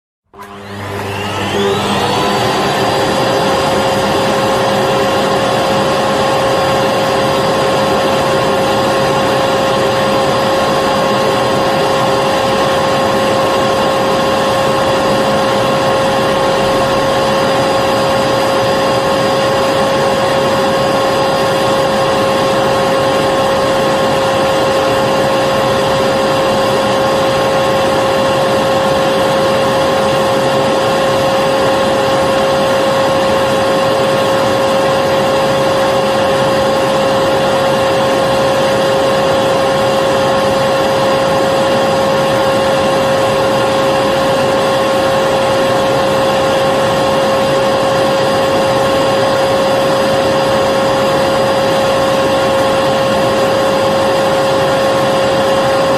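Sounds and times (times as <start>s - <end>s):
vacuum cleaner running: 0.3s - 55.9s.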